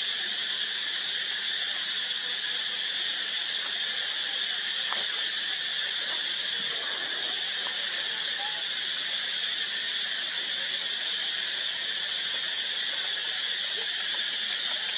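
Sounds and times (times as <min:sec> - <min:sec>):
insect chorus drone: 0:00.0 - 0:14.9.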